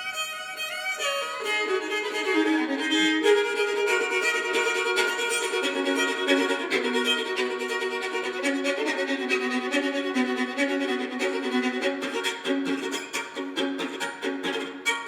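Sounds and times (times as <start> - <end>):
solo fiddle playing fast tune: 0.0 - 15.0.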